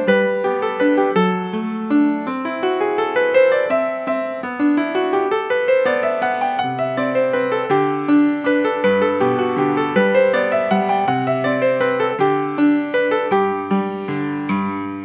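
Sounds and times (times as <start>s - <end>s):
slow flowing piano melody: 0.0s - 15.0s.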